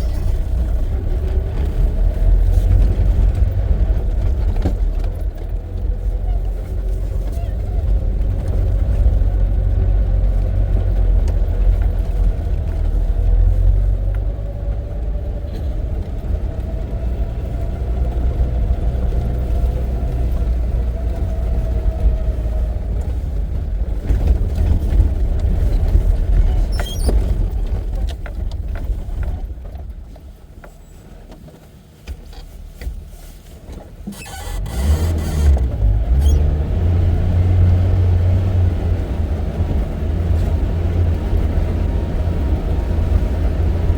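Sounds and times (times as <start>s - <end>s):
road noise: 0.0s - 43.9s
vehicle engine rumble: 0.0s - 43.9s.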